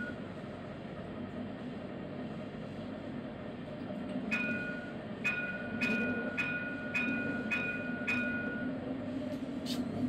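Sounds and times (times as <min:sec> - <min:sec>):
tram rumbling on track: 0:00.0 - 0:10.0.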